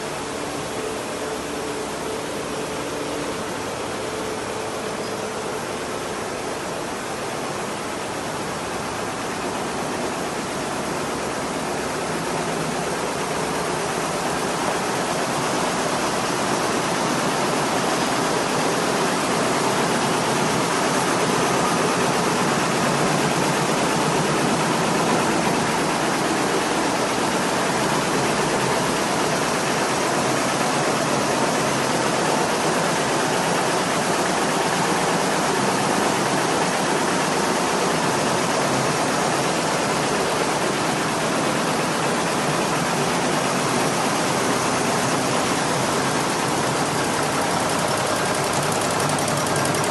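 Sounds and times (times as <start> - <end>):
factory machinery running: 0.0 - 49.9.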